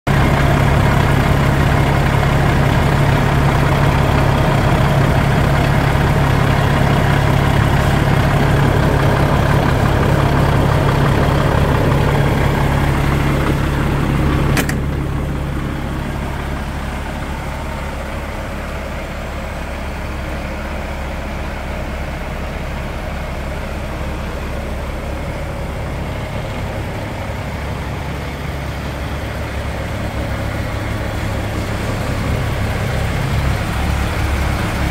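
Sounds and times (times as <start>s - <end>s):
truck diesel engine idling: 0.1s - 34.9s.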